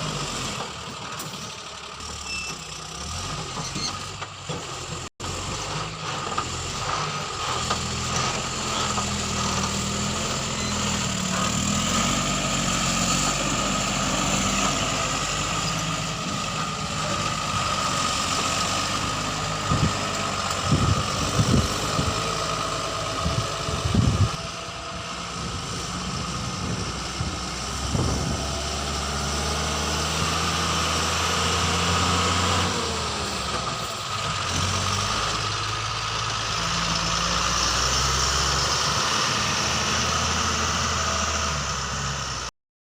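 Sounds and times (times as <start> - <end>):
heavy diesel engine running: 0.0 - 42.5.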